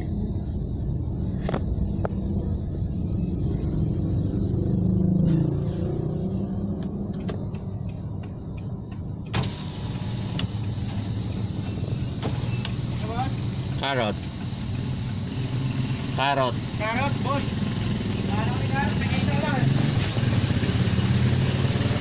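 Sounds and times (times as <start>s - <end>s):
engine and tyre rumble: 0.0s - 22.0s.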